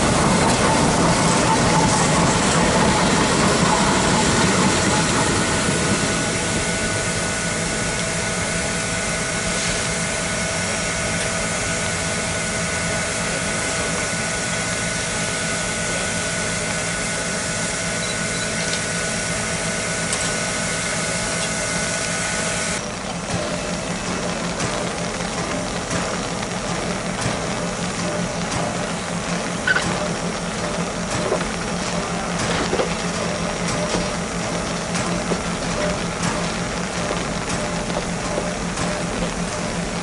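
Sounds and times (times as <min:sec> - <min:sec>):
electric railcars rolling past: 0:00.0 - 0:40.0
machinery whine: 0:00.0 - 0:40.0
steam hissing: 0:00.0 - 0:40.0.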